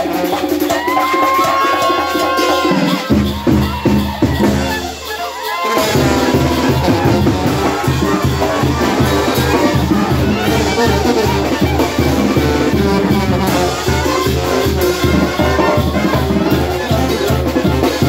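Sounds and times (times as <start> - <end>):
brass band playing lively tune: 0.0 - 18.0
sousaphones and drums beat: 0.0 - 18.0.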